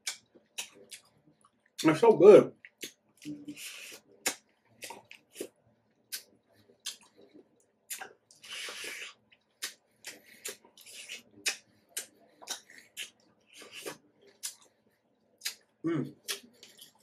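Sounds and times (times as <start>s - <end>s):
wet chewing clicks and smacks: 0.0s - 17.0s.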